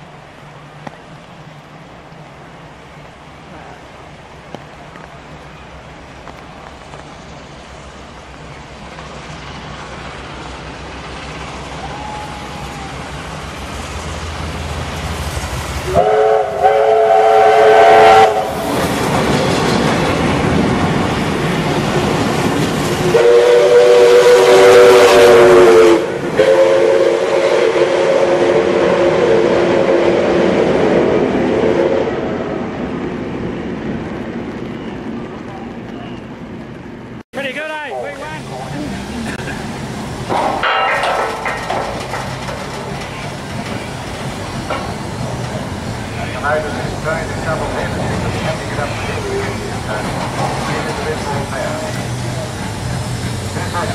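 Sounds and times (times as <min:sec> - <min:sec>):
steam trains rumbling past: 0:00.0 - 0:53.9.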